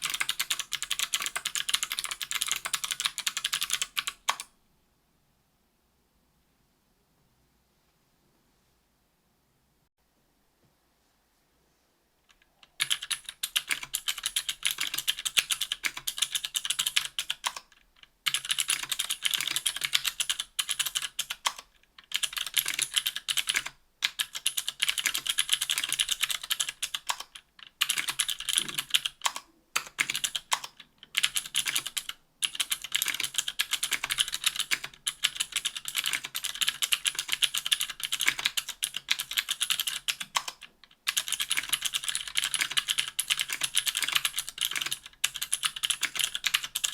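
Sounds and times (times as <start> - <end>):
fast clicky keyboard typing: 0.0 - 4.5, 12.6 - 46.9.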